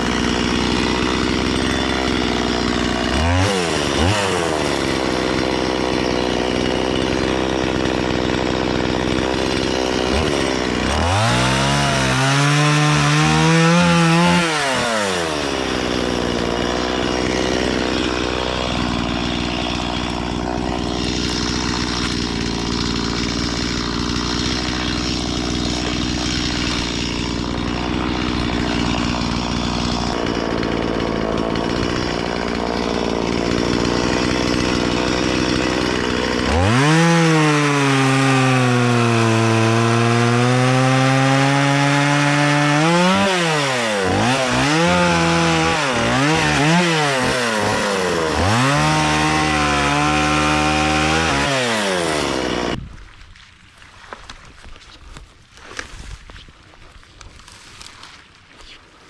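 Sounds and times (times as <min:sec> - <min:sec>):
chainsaw cutting wood: 0:00.0 - 0:52.9, 0:54.0 - 0:59.0.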